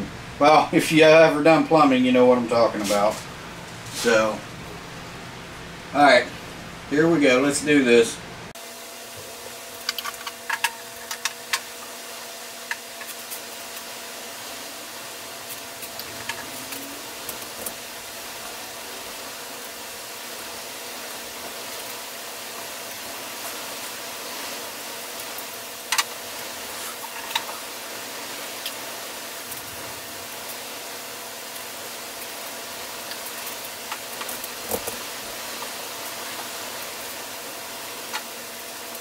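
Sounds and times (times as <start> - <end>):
steady hiss: 0.0 - 5.0, 5.9 - 39.0.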